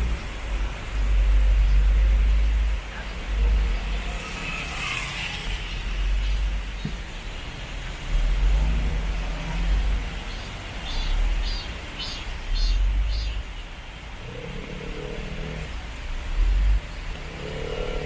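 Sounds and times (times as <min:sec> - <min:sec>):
cars passing: 0:00.0 - 0:18.0
low traffic rumble: 0:00.0 - 0:18.0
vehicle tyre noise: 0:00.0 - 0:18.0.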